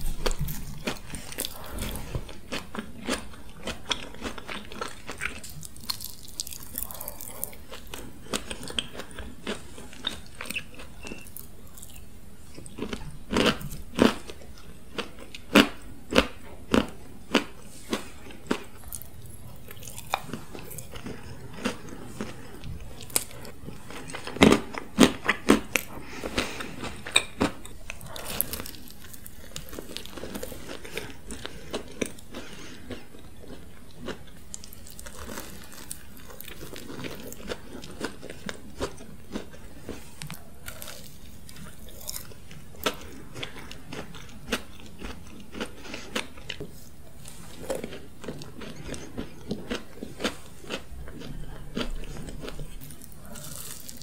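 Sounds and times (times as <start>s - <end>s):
person chewing: 0.0s - 54.0s.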